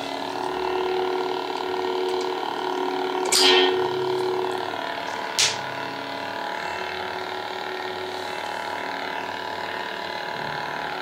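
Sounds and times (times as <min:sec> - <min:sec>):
lightsaber humming: 0:00.0 - 0:11.0.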